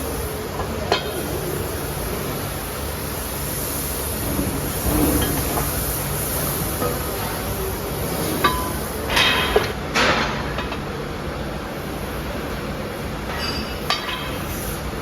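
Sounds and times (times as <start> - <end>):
factory workshop noise: 0.0 - 15.0.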